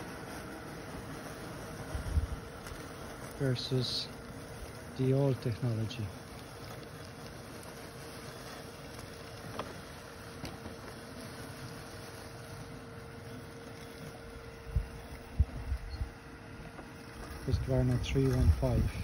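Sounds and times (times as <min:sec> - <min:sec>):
robotic lawn mower humming: 0:00.0 - 0:19.0.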